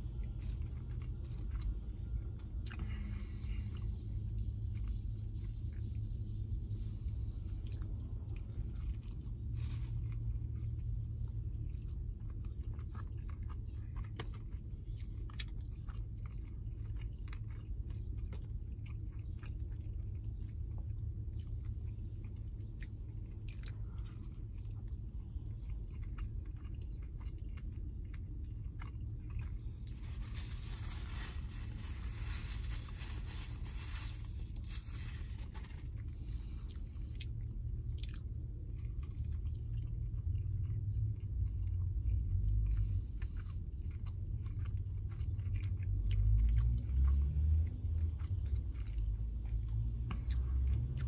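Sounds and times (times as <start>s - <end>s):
chewing and crunching food: 0.0s - 51.0s
low rumble in car: 0.0s - 51.0s.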